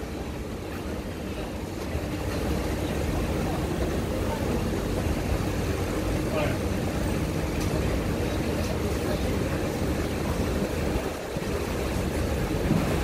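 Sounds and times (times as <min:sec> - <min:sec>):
stopped train humming: 0:00.0 - 0:13.0.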